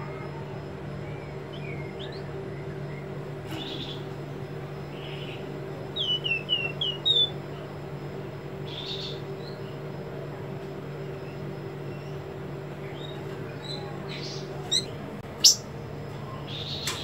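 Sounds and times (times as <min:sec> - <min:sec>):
steady low hum: 0:00.0 - 0:17.0
songbird calling: 0:01.1 - 0:07.7, 0:08.5 - 0:09.9, 0:11.1 - 0:17.0.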